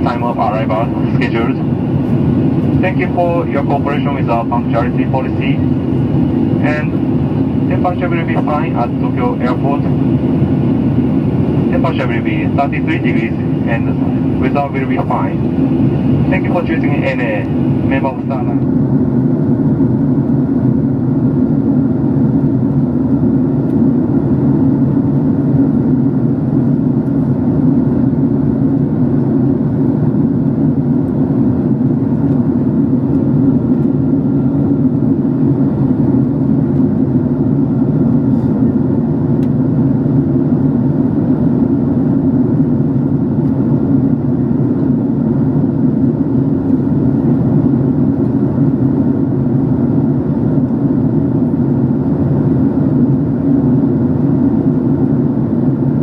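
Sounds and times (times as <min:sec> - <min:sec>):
jet cabin drone: 0:00.0 - 0:56.0.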